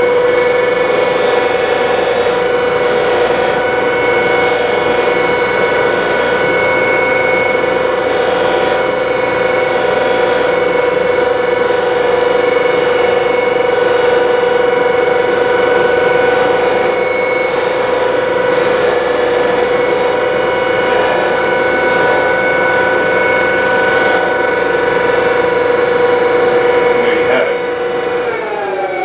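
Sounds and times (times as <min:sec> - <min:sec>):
polishing motor hum: 0:00.0 - 0:29.0.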